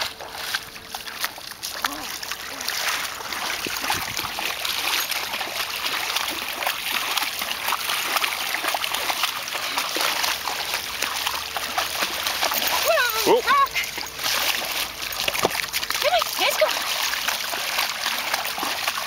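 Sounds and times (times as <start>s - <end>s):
feet splashing through water: 0.0s - 19.0s.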